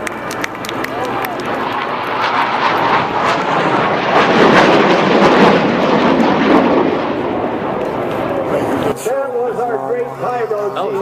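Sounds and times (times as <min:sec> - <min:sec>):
airplane flying past: 0:00.0 - 0:11.0.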